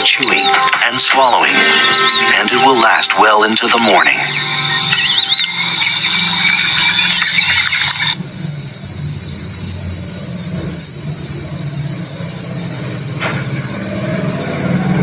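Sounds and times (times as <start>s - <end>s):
crickets trilling: 0.0s - 15.0s
pulsed cricket chirping: 0.0s - 15.0s.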